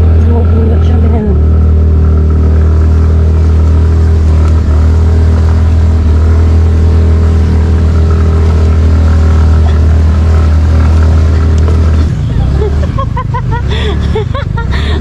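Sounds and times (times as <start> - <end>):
scooter engine running under load: 0.0 - 15.0.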